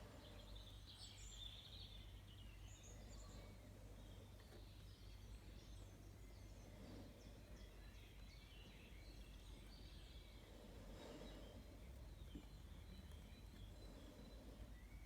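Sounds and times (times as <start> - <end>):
low steady hum: 0.0 - 15.0
small birds chirping: 0.0 - 15.0.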